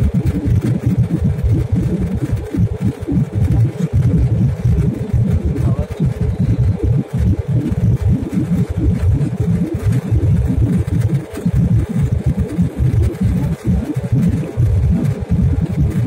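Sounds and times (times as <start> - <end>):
faint steady hum: 0.0 - 16.0
jet engine and airflow rumble: 0.0 - 16.0.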